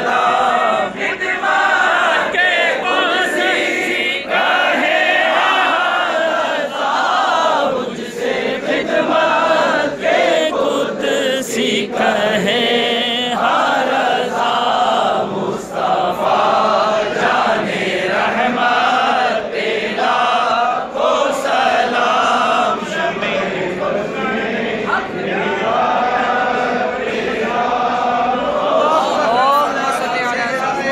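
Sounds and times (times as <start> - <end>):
crowd of men chanting: 0.0 - 30.9.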